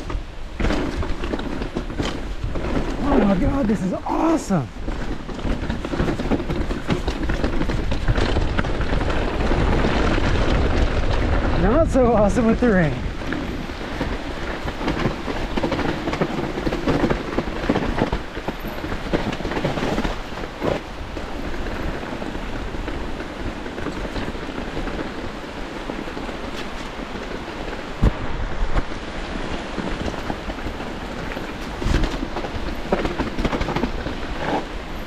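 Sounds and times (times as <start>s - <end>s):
bike knocks and rattles: 0.0s - 35.0s
bike tyres rumbling: 0.0s - 35.0s
rain: 0.0s - 35.0s
wind rushing on microphone: 0.0s - 35.0s.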